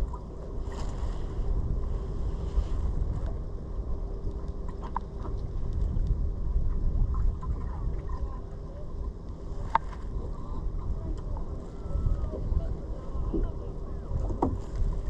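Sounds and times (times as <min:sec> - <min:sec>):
wind buffeting microphone: 0:00.0 - 0:04.4, 0:05.1 - 0:15.0
faint hum: 0:00.0 - 0:15.0.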